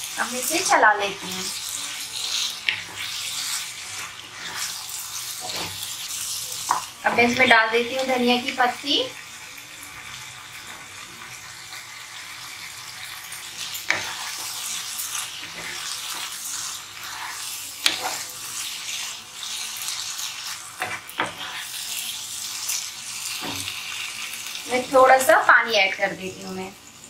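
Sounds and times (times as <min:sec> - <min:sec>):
curry sizzling in a pan: 0:00.0 - 0:27.0.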